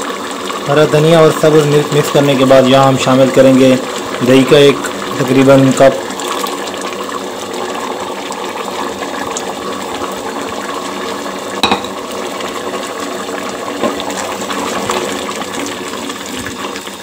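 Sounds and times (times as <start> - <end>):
curry bubbling in a pot: 0.0 - 17.0.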